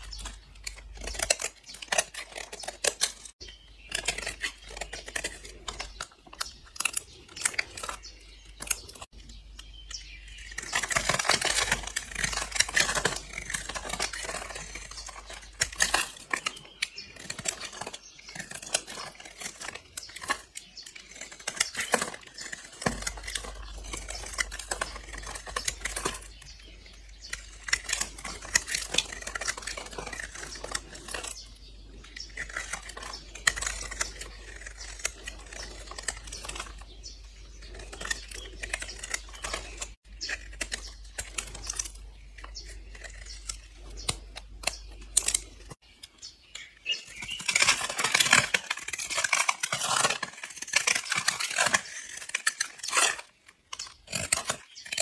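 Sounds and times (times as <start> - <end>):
blade slicing soap crackling: 0.0 - 55.0.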